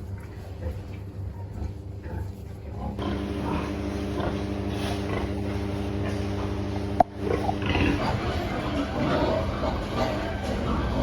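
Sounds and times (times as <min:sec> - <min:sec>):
pigs grunting: 0:00.0 - 0:11.0
steady mechanical hum: 0:00.0 - 0:11.0.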